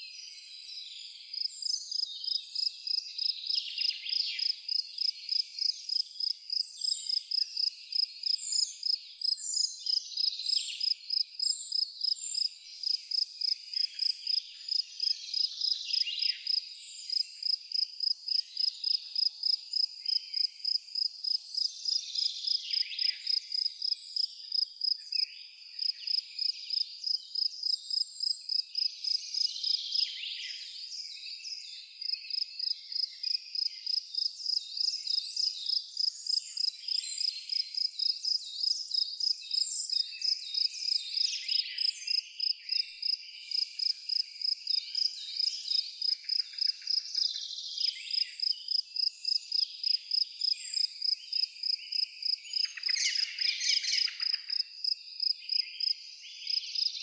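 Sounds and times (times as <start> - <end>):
small bird chirps: 0.0 - 57.0
cricket chirping: 1.3 - 30.7, 32.0 - 57.0.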